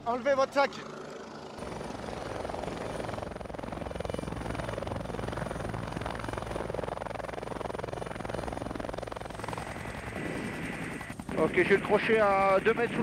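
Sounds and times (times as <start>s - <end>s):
helicopter rotor chop: 0.0s - 13.0s.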